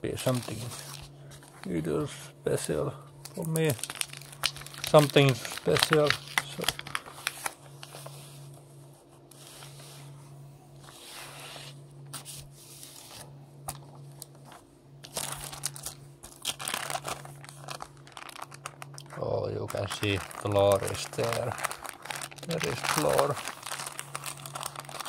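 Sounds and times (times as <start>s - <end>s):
steady low hum: 0.0s - 25.0s
paper rustling and crinkling: 0.1s - 2.1s, 3.2s - 25.0s.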